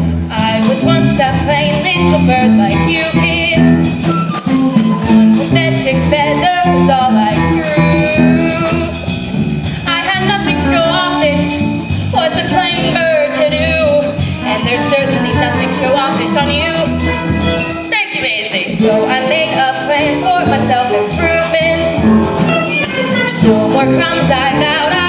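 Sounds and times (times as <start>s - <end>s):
instrumental accompaniment: 0.0s - 25.0s
woman singing with vibrato: 0.3s - 25.0s.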